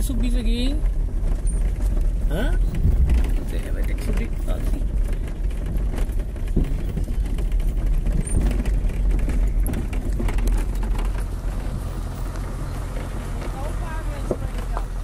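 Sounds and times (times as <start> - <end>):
car engine and tyres rumbling: 0.0 - 15.0
knocks and rattles over bumps: 0.0 - 15.0.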